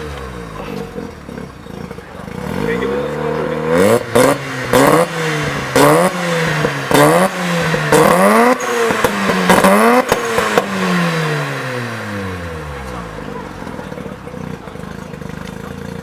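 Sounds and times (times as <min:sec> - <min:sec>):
car engine revving: 0:00.0 - 0:16.0
exhaust cracks: 0:00.0 - 0:16.0.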